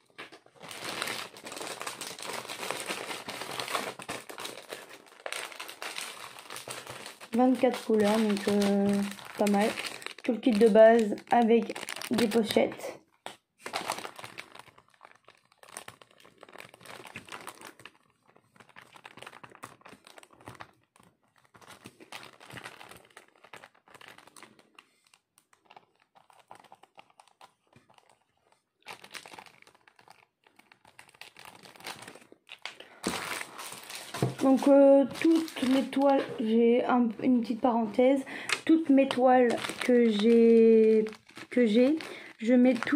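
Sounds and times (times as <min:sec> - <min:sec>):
plastic packaging crinkling: 0:00.0 - 0:42.9.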